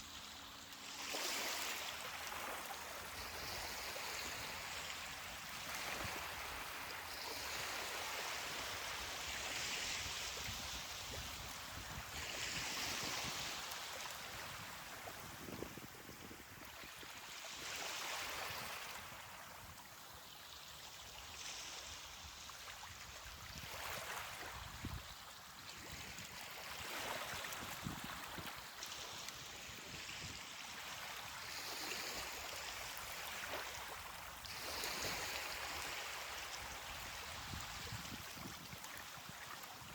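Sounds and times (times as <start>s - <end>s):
ocean waves washing onto beach: 0.0s - 19.8s, 22.8s - 39.9s.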